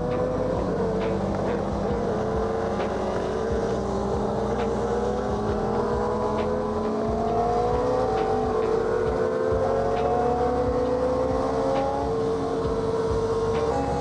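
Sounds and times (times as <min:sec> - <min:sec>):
motorcycle engine cruising: 0:00.0 - 0:14.0
steady rush of noise: 0:00.0 - 0:14.0.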